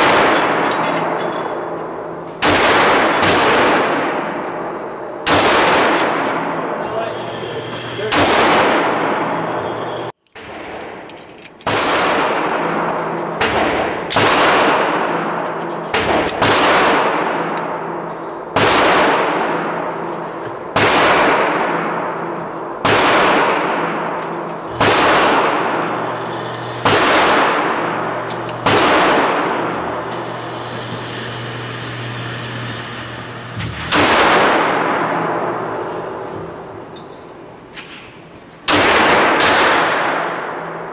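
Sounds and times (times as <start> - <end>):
pistol shots echoing indoors: 0.0 - 7.5, 8.1 - 30.6, 33.7 - 40.9.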